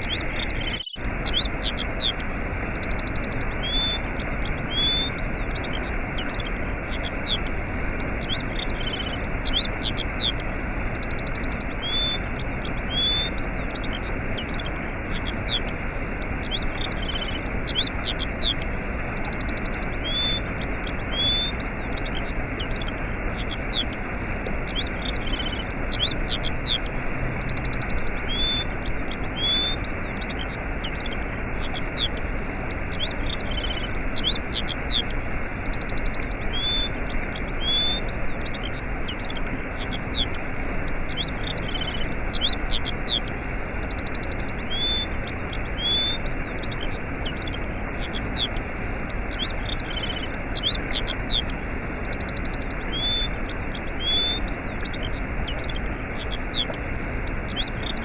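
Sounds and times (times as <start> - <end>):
small birds chirping: 0.0 - 58.0
waterfall rushing: 0.0 - 58.0.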